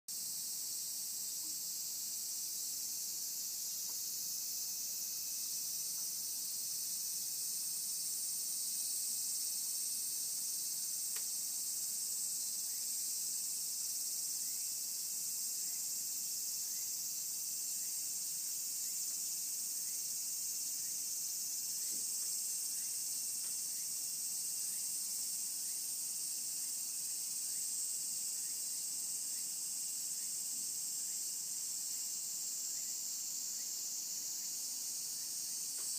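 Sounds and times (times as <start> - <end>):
insects buzzing: 0.1 - 35.9.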